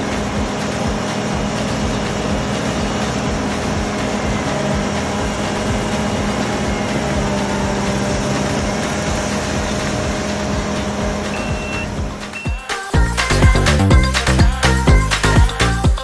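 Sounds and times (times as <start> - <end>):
diesel engine running: 0.0 - 15.8.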